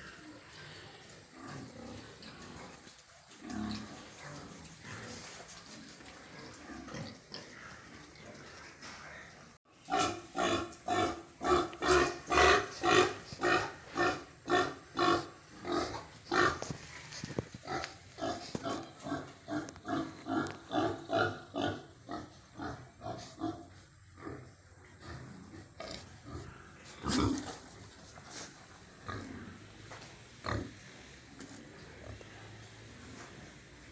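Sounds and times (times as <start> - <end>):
pig grunting: 0.0 - 16.8, 17.4 - 29.8.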